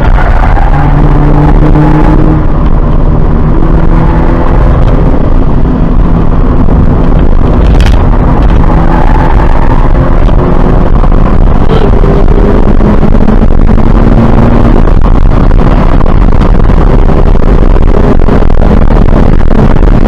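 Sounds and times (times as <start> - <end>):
car engine running hard: 0.0 - 20.0
tyre and wind noise: 0.0 - 20.0.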